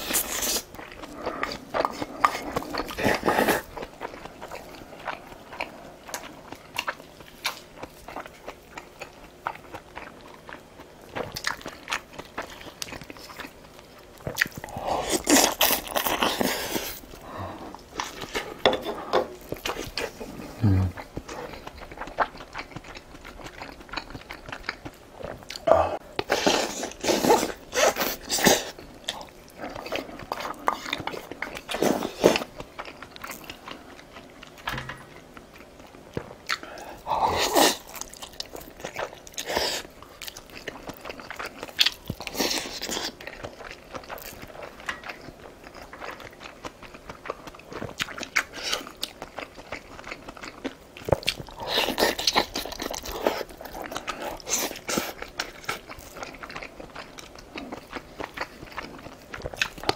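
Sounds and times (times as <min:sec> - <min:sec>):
wet chewing and crunching: 0:00.0 - 0:59.9.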